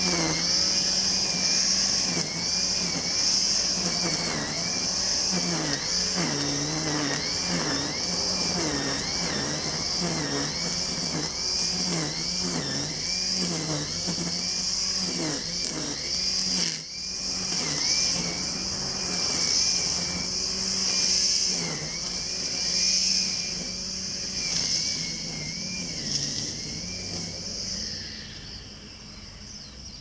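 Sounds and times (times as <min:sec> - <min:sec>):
grass cutter motor running: 0:00.0 - 0:30.0
insects shrilling: 0:00.0 - 0:30.0.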